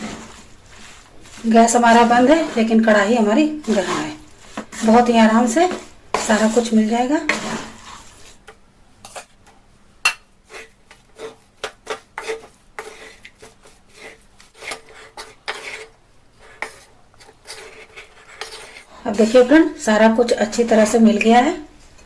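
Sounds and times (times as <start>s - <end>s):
spatula scraping a pan: 0.0s - 8.5s, 10.4s - 22.0s.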